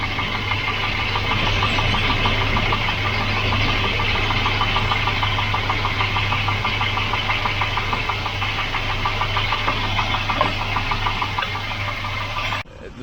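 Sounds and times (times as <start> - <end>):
rapid light ticking: 0.0 - 12.6
car engine idling: 0.0 - 13.0.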